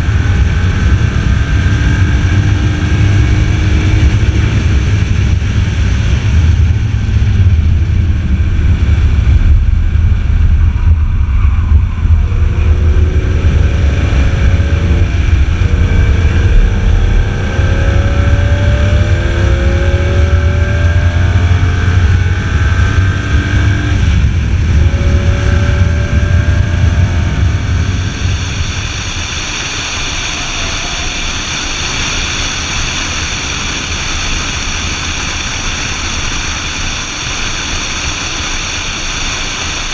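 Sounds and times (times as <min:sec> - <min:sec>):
car engine revving: 0:00.0 - 0:39.9
heavy low rumble: 0:00.0 - 0:39.9.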